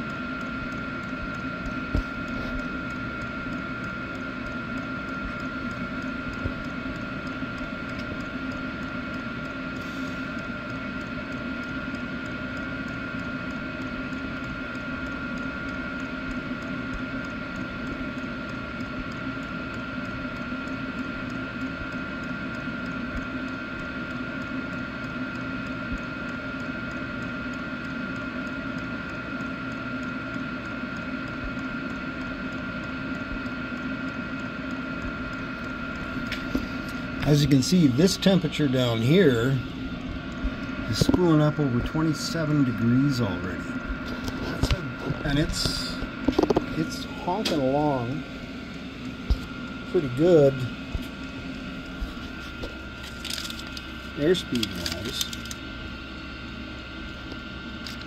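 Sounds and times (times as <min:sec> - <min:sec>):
air heater and fan whirring: 0:00.0 - 0:58.0.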